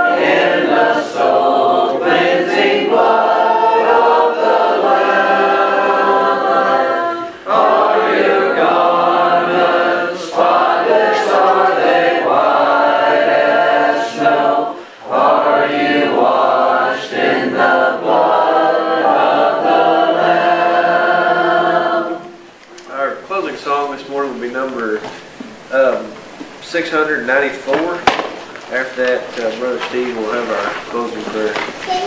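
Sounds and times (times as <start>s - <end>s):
congregation singing a hymn: 0.0s - 32.0s.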